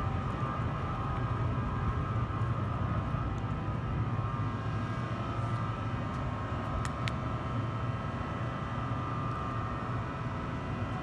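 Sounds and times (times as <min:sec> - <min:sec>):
locomotive high whine: 0:00.0 - 0:11.0.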